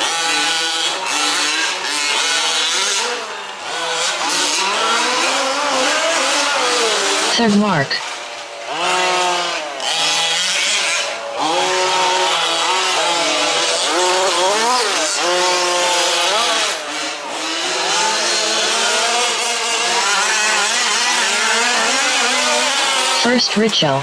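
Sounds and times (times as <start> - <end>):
small two-stroke engines revving: 0.0 - 24.0.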